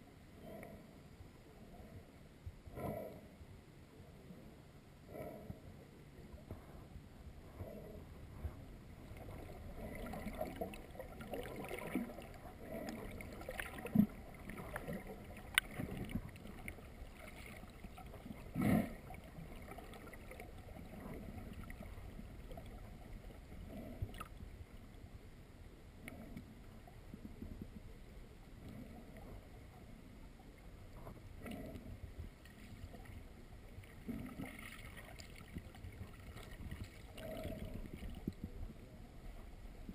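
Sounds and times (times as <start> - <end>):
water sloshing and gurgling: 4.1 - 39.9.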